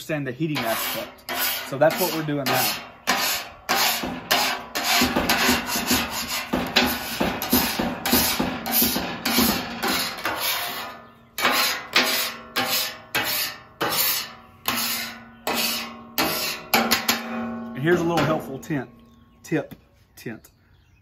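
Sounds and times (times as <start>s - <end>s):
scraper scraping steel griddle: 0.2s - 18.7s.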